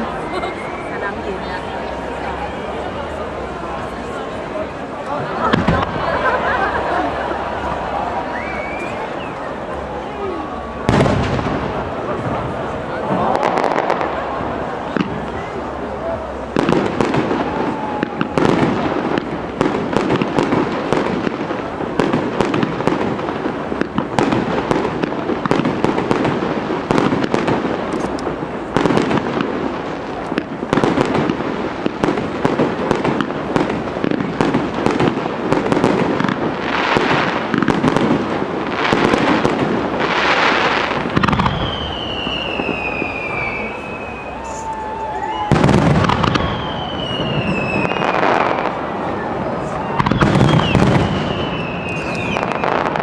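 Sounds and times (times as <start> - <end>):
firework bangs and crackling: 0.0 - 53.0.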